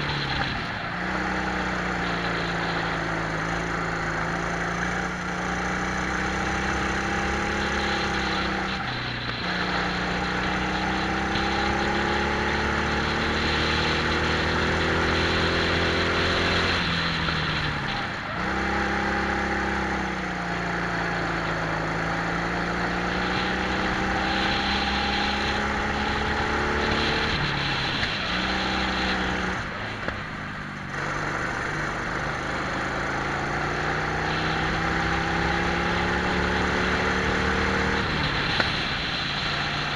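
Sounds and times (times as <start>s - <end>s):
kart engines revving: 0.0s - 39.9s
wind and tyre hiss: 0.0s - 39.9s.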